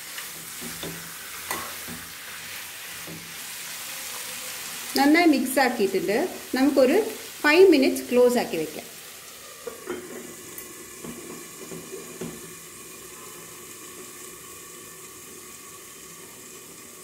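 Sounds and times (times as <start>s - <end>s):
curry sizzling in pan: 0.0s - 17.0s.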